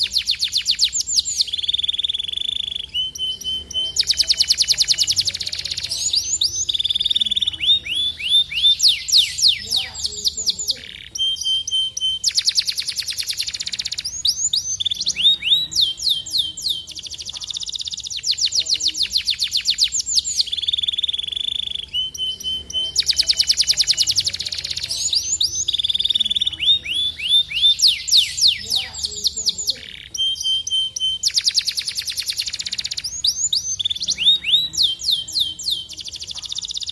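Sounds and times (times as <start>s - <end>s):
canary singing: 0.0s - 36.9s.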